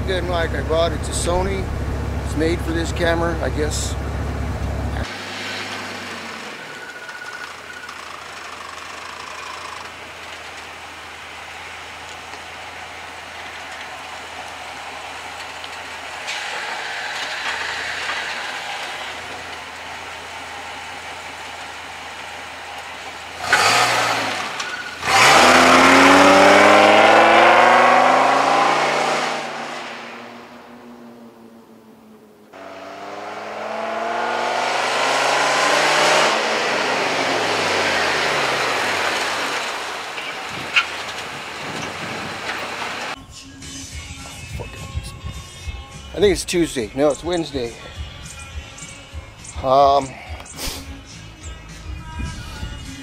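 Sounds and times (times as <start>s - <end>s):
truck engine idling and revving: 0.0s - 53.0s.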